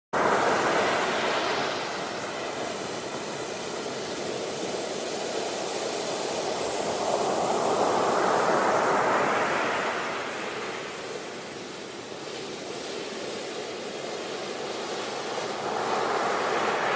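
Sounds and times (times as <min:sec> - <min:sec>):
sea waves washing in: 0:00.2 - 0:16.9.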